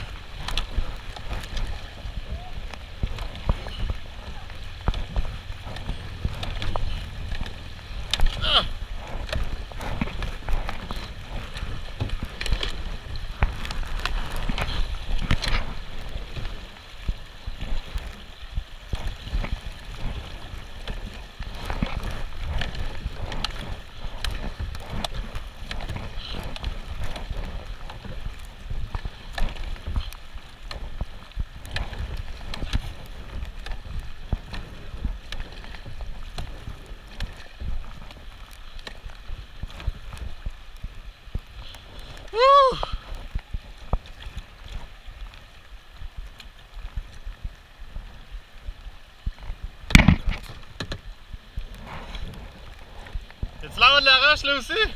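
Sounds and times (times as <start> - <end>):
kayak paddle splashing: 0.0 - 54.9
rushing river water: 0.0 - 54.9
wind buffeting microphone: 0.0 - 54.9.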